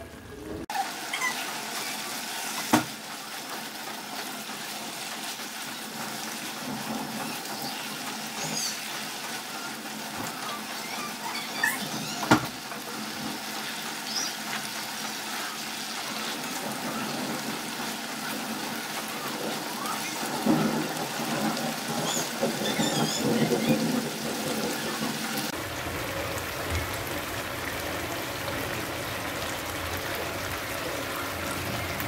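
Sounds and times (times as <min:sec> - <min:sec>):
food sizzling in a frying pan: 0:00.2 - 0:32.0.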